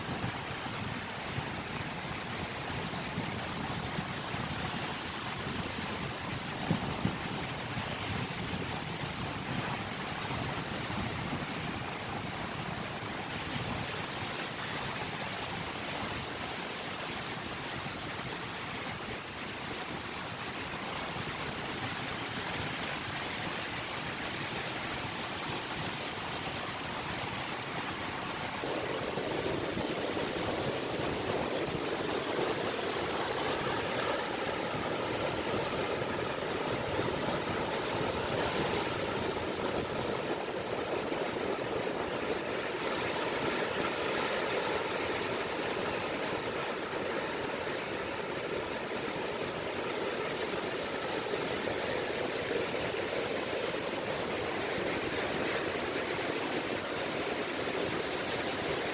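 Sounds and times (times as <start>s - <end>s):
small waves washing on shore: 0.0s - 58.9s.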